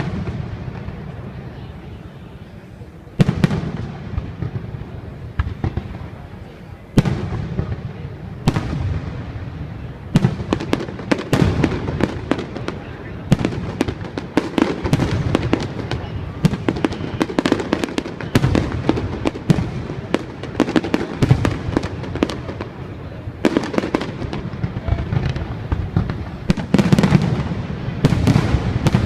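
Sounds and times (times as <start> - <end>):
fireworks bangs: 0.0 - 29.0
fireworks crackling and popping: 0.0 - 29.0.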